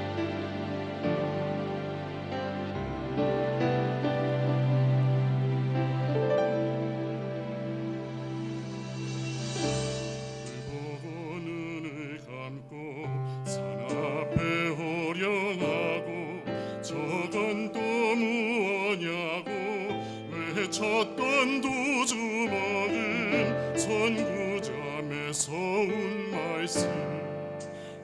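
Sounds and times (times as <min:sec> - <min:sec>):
steady musical accompaniment: 0:00.0 - 0:28.0.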